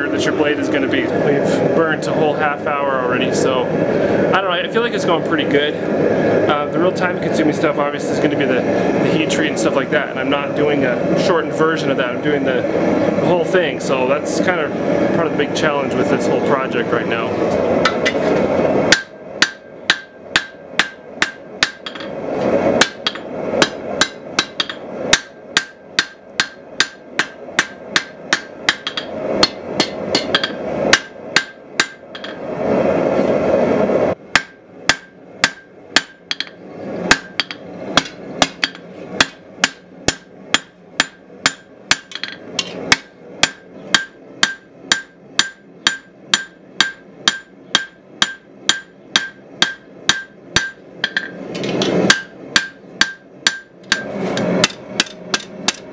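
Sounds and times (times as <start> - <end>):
steady rushing noise: 0.0 - 19.5, 20.3 - 55.9.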